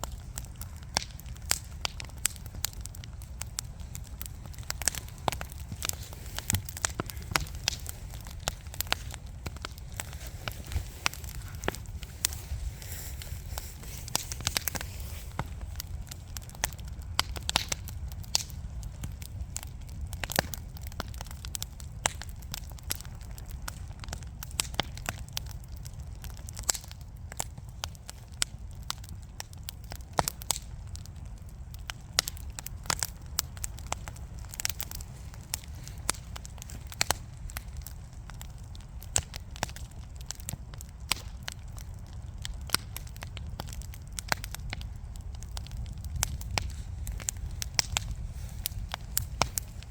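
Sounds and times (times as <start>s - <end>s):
burning wood crackling: 0.0s - 49.9s
low rumble of fire: 0.0s - 49.9s.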